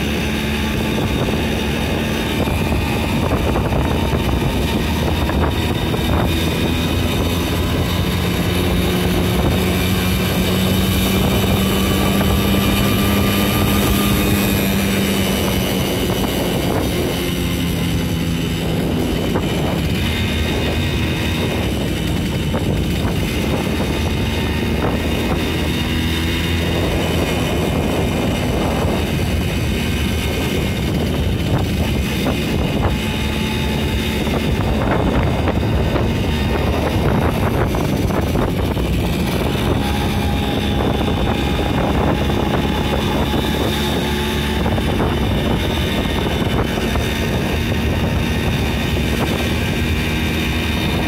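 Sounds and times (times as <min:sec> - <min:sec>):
moped engine running: 0:00.0 - 0:51.0
wind on microphone: 0:00.0 - 0:51.0.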